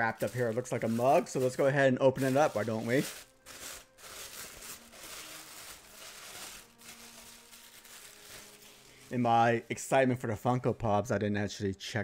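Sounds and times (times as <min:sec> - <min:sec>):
gift-wrapping paper rustling: 0:00.0 - 0:10.2.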